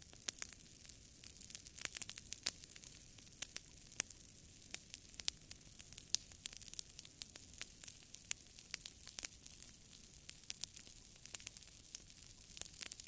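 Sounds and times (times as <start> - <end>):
campfire crackling: 0.0 - 13.0
faint steady hiss: 0.0 - 13.0.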